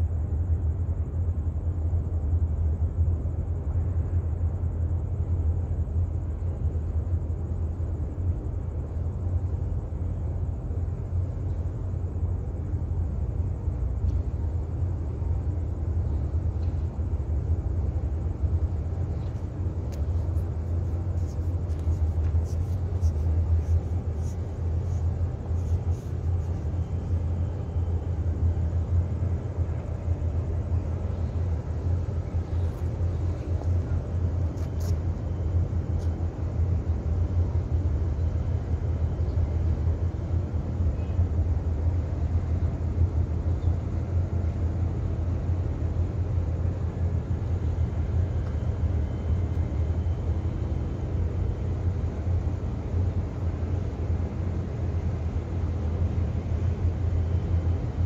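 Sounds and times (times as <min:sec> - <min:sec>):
ship engine low rumble: 0:00.0 - 0:58.0.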